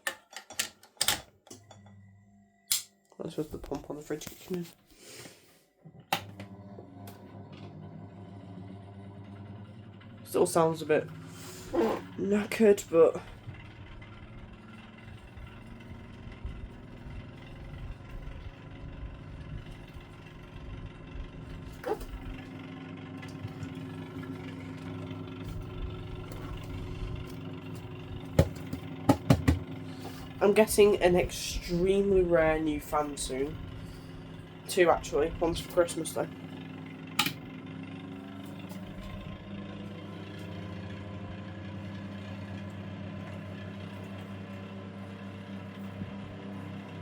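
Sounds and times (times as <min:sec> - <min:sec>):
desk fan motor humming: 0:06.0 - 0:47.0.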